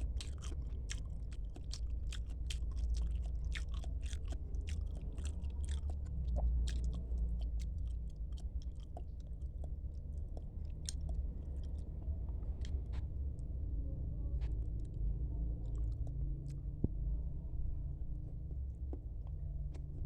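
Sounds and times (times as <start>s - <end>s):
person chewing and smacking: 0.0s - 13.2s, 14.4s - 16.8s, 18.2s - 20.0s.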